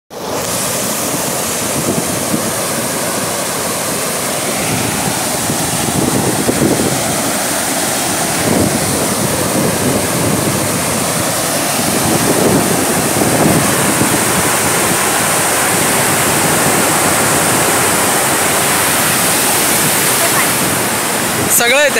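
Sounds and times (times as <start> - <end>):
water roaring down spillway: 0.1 - 21.9.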